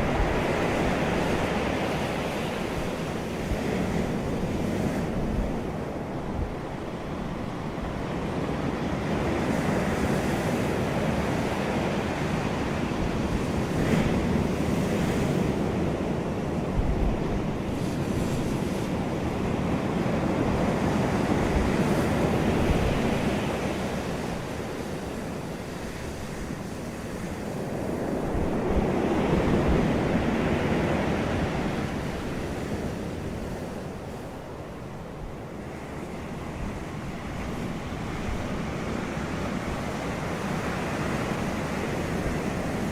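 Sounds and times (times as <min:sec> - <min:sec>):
sea waves breaking on shore: 0:00.0 - 0:42.9
wind rumbling on microphone: 0:00.0 - 0:42.9.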